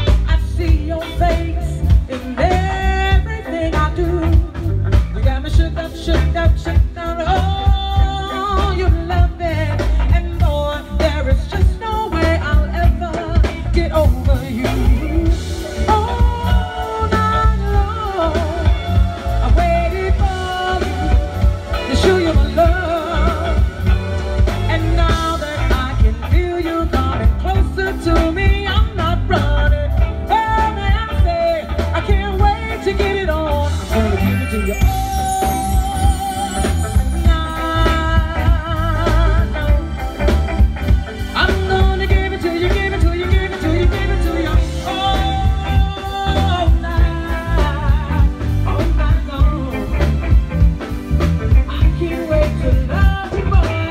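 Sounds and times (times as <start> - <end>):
bass guitar: 0.0 - 53.9
drums: 0.0 - 53.9
electric guitar: 0.0 - 53.9
keyboards: 0.0 - 53.9
person singing: 0.0 - 53.9.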